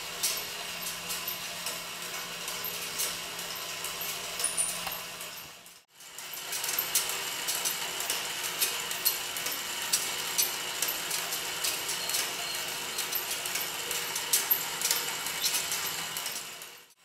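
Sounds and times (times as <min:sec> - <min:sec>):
electric toy motor whirring: 0:00.0 - 0:17.0.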